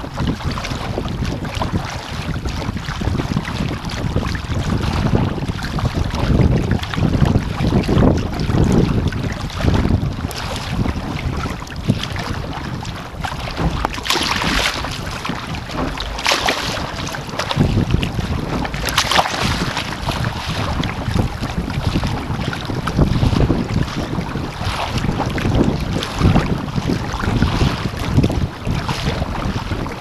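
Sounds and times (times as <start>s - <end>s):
water splashing against hull: 0.0s - 30.0s
wind buffeting microphone: 0.0s - 30.0s.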